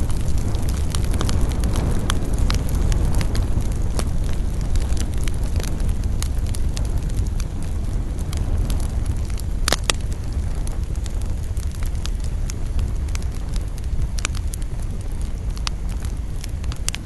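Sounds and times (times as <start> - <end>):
fire crackles and pops: 0.0 - 17.0
wood fire rumbling: 0.0 - 17.0.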